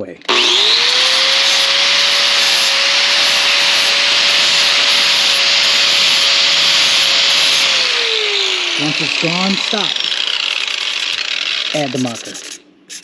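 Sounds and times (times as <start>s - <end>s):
angle grinder grinding steel: 0.2s - 13.0s.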